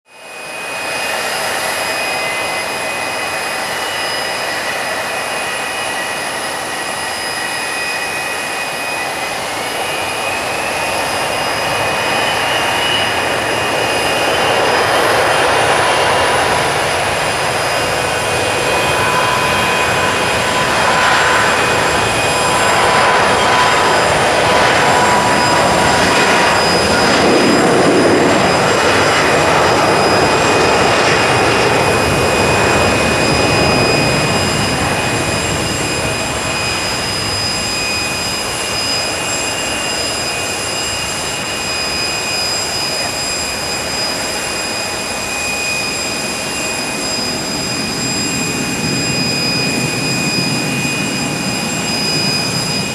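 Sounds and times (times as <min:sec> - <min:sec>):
jet airliner taking off: 0:00.1 - 0:52.9.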